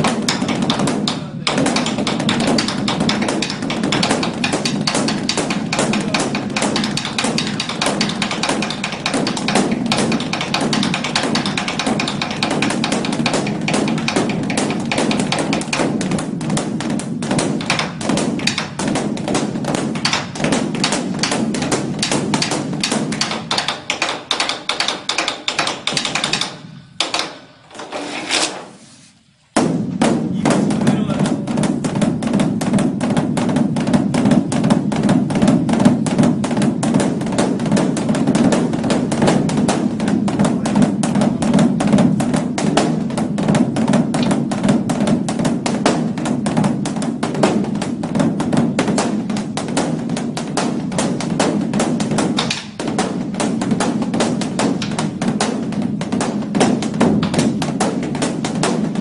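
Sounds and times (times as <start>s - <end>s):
large drum beaten with sticks: 0.0s - 27.4s, 29.5s - 59.0s.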